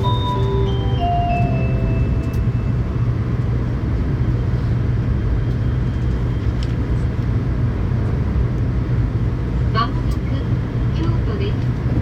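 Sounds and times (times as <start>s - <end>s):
train cabin running noise: 0.0s - 12.0s.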